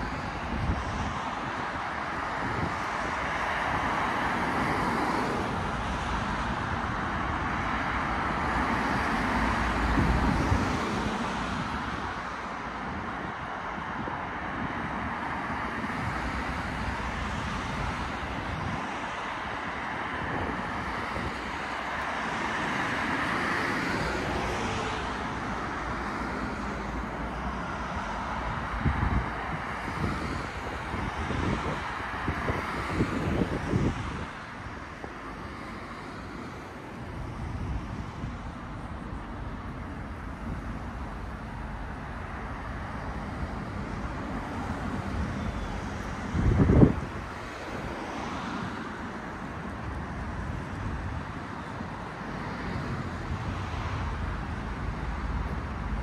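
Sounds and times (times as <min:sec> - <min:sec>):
passing vehicles: 0:00.0 - 0:56.0.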